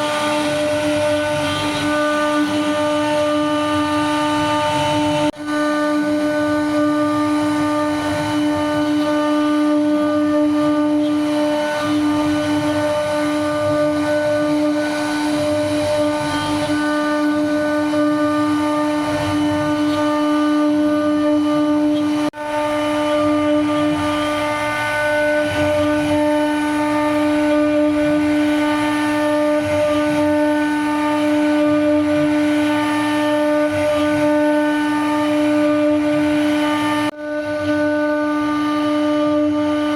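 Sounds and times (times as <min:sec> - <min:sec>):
router bit cutting wood: 0:00.0 - 0:39.9
router spindle whining: 0:00.0 - 0:39.9.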